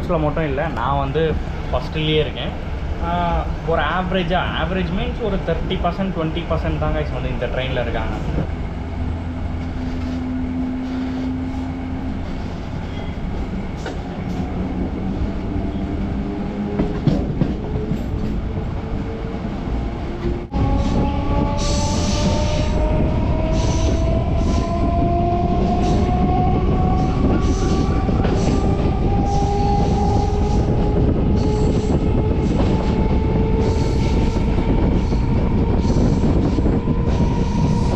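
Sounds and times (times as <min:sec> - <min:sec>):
wheels rattling on track: 0:00.0 - 0:37.9.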